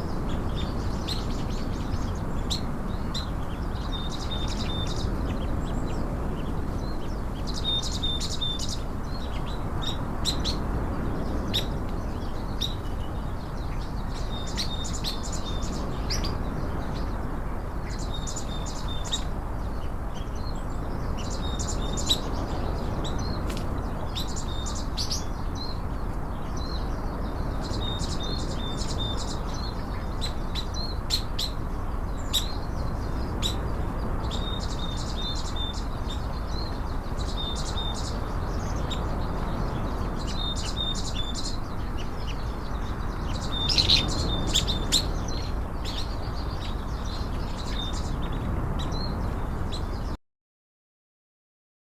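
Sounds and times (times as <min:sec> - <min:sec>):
small birds chirping: 0:00.0 - 0:50.2.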